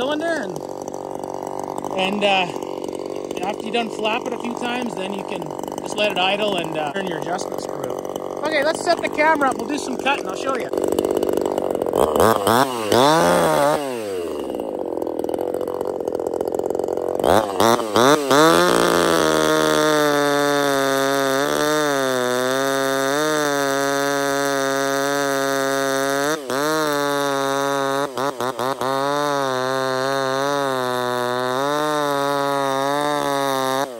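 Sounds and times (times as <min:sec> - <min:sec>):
chainsaw revving and cutting log: 0:00.0 - 0:33.9.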